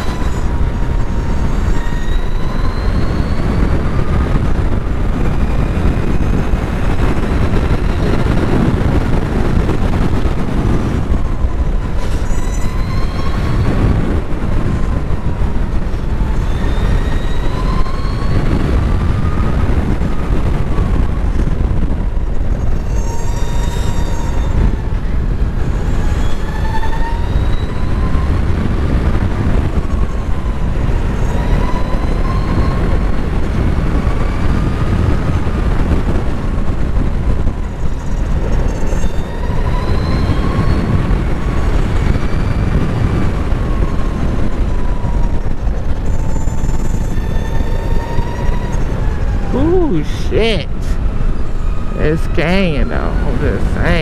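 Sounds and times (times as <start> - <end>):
wind rushing across microphone: 0.0 - 54.0.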